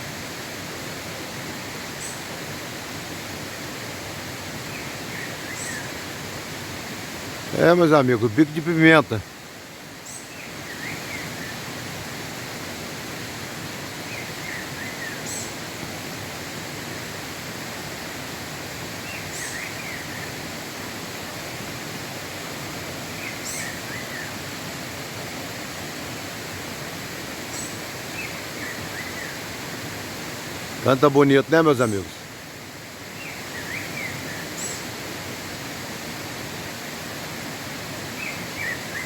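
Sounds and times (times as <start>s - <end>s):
steady rushing hiss: 0.0s - 39.0s.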